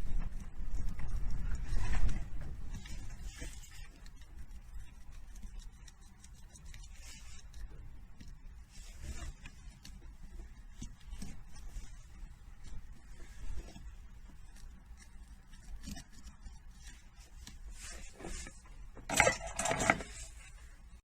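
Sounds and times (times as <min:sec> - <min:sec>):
rustling: 0:00.0 - 0:21.0.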